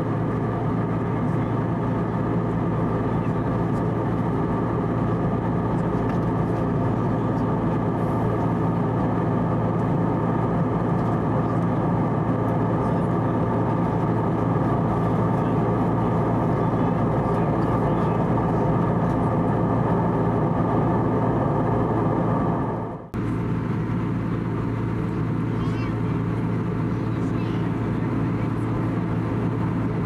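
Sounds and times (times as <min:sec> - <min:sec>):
airplane cabin drone: 0:00.0 - 0:30.0.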